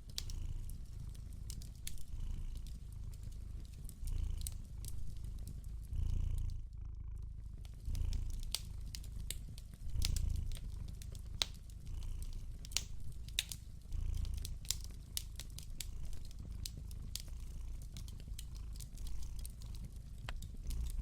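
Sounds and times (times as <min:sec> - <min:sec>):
cat purring: 0:00.0 - 0:21.0
fire crackling and popping: 0:00.0 - 0:21.0.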